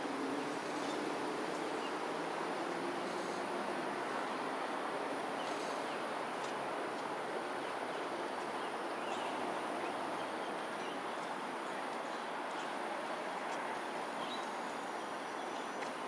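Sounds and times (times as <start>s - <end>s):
outdoor hiss-like hum: 0.0s - 16.0s.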